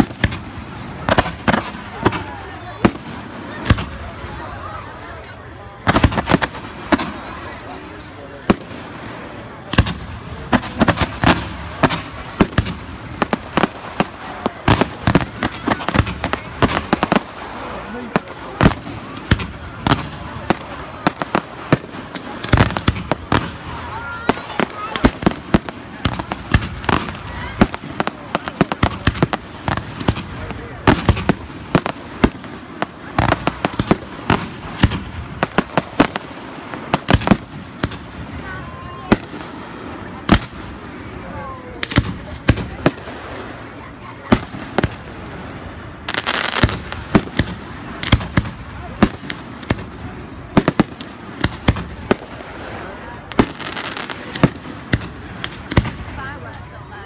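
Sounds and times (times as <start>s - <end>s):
continuous background noise: 0.0s - 57.0s
fireworks bangs and cracks: 0.0s - 57.0s.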